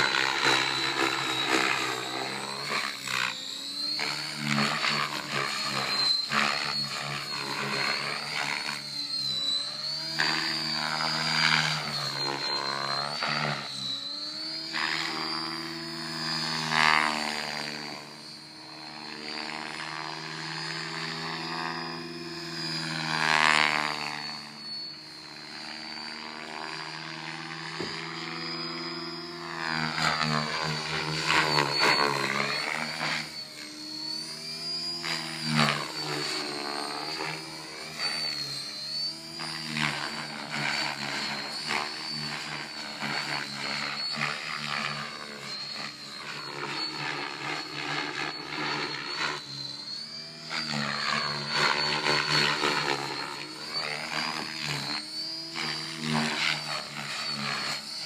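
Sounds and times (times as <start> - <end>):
model airplane propeller buzzing: 0.0 - 58.0.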